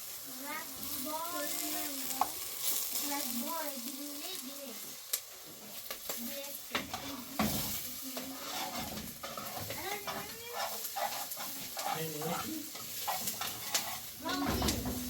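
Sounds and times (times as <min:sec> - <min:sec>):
steady sizzling hiss: 0:00.0 - 0:15.0.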